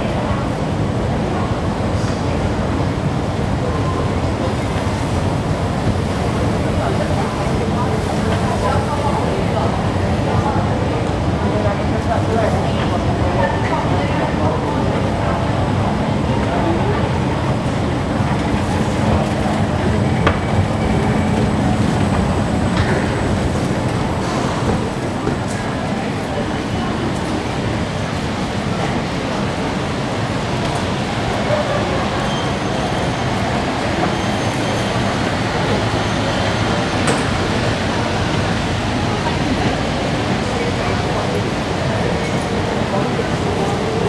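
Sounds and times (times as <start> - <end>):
station hall hum and hiss: 0.0 - 44.0.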